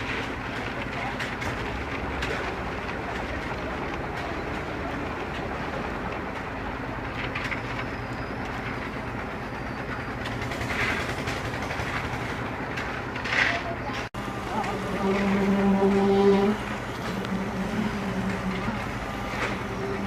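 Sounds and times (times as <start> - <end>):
scrapes and clatters: 0.0 - 9.1, 10.2 - 20.0
heavy machinery engine humming: 0.0 - 20.0.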